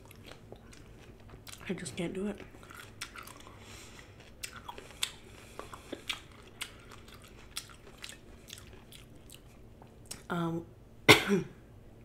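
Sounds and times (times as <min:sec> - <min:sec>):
person chewing crunchy vegetable: 0:00.0 - 0:10.3.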